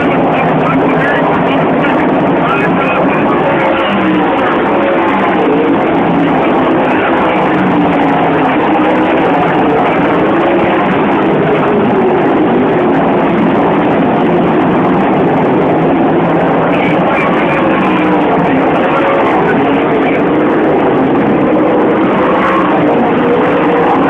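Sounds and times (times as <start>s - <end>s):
racing car engines roaring: 0.0s - 24.0s.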